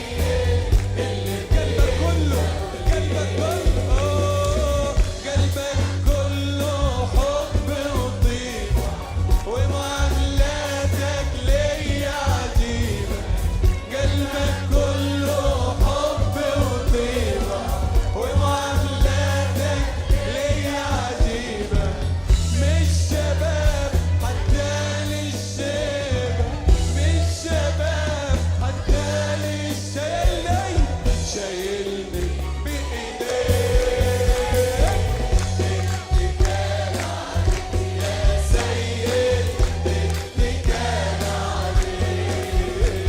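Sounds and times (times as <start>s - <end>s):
band with bass and beat: 0.0s - 43.0s
person singing a hymn: 0.0s - 43.0s.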